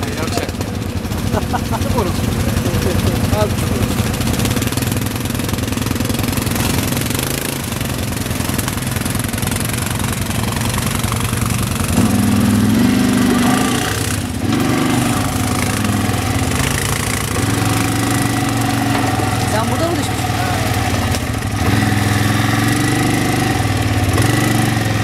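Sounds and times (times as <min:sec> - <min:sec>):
quad bike engine revving: 0:00.0 - 0:25.0.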